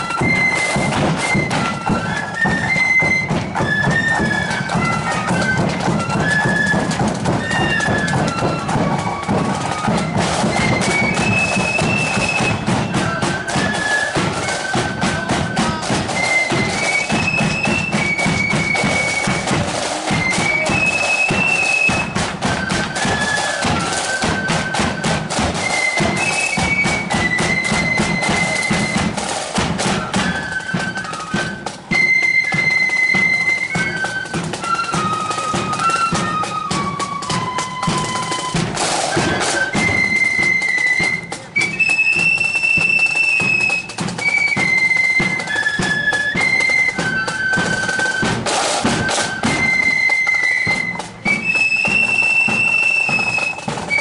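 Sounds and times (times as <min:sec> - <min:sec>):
drums beating march time: 0:00.0 - 0:54.0
flutes playing a melody: 0:00.0 - 0:54.0.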